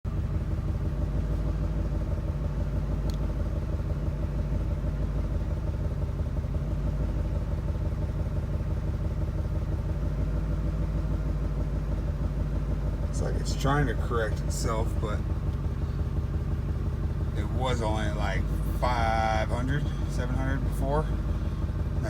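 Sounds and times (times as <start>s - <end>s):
misfiring truck engine idling: 0.1s - 22.0s.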